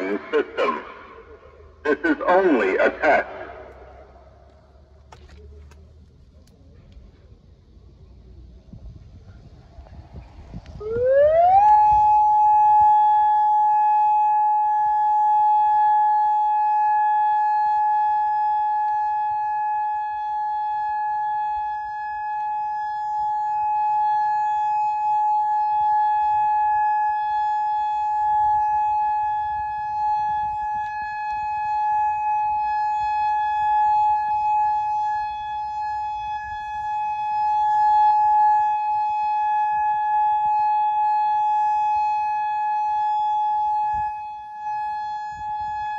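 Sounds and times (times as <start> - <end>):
electronic warning siren steady tone: 0.0 - 5.3, 9.4 - 45.9.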